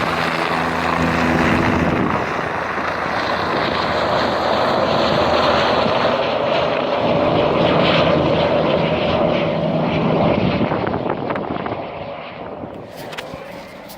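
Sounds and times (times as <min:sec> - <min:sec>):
helicopter rotor and engine: 0:00.0 - 0:13.9.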